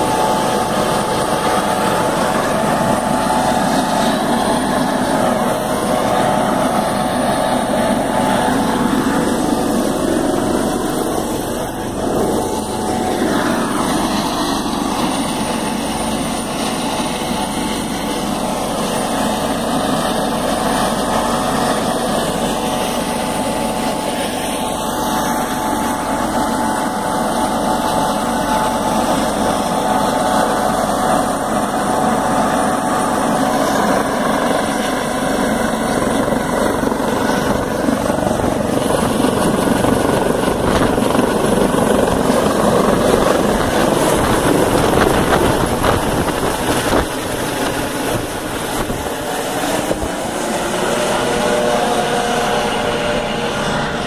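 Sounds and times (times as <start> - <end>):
helicopter turbine and rotor whine: 0.0 - 54.0.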